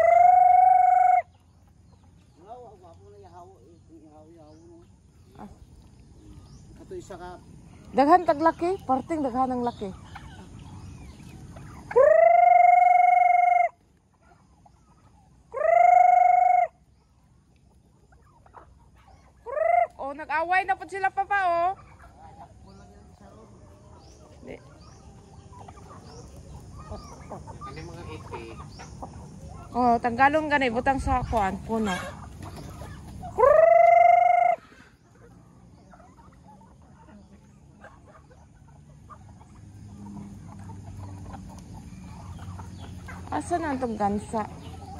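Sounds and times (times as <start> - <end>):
faint chicken clucking: 0.0 - 44.9.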